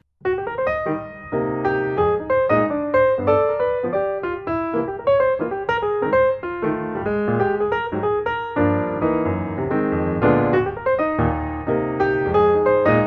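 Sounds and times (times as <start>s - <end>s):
piano music: 0.2s - 13.0s.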